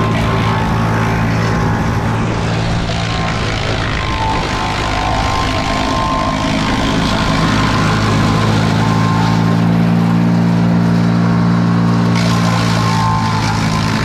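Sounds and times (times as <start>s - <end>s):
wood chipper engine droning: 0.0s - 14.0s.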